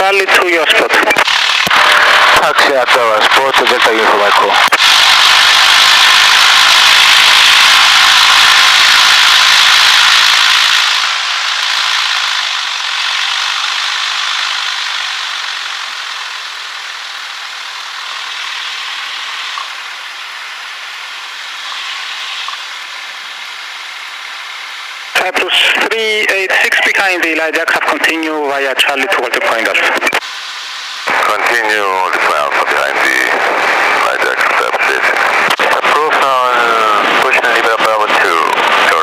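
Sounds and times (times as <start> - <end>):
aircraft engine hissing rush: 1.3 - 29.1, 30.2 - 39.0.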